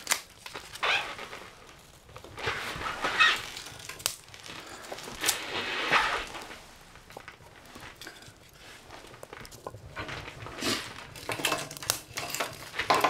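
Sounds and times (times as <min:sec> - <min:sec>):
scraping and rustling: 0:00.0 - 0:13.0.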